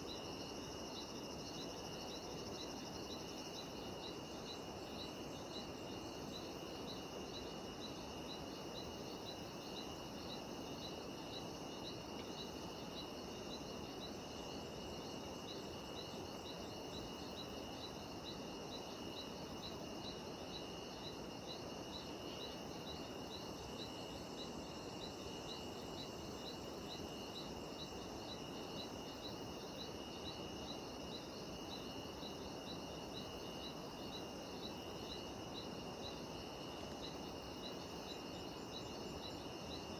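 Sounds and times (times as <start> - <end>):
background hiss: 0.0 - 39.9
cicadas chorus: 0.0 - 39.9.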